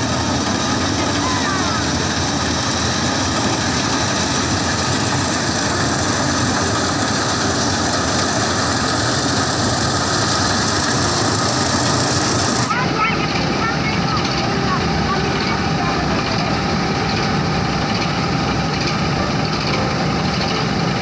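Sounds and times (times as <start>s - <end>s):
combine harvester droning: 0.0s - 21.0s
machinery whining: 0.0s - 21.0s.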